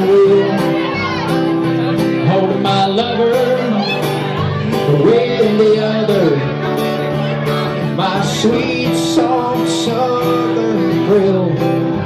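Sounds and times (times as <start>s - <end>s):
strummed acoustic guitars: 0.0s - 12.0s.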